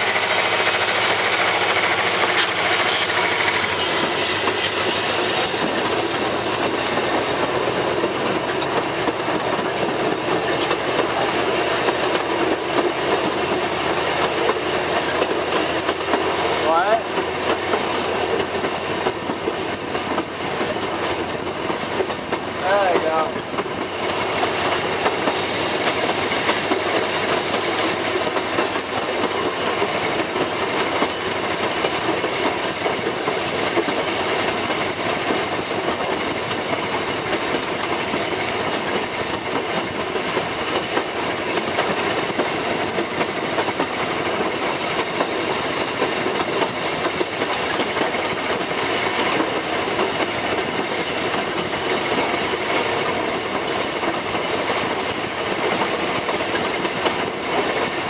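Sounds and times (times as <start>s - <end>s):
diesel locomotive engine: 0.0s - 58.0s
wheels on rails: 0.0s - 58.0s.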